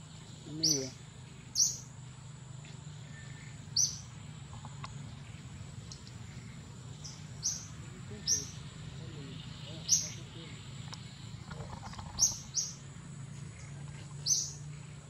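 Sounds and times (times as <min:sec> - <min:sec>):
bird chirping: 0:00.0 - 0:15.0
low outdoor hum: 0:00.0 - 0:15.0.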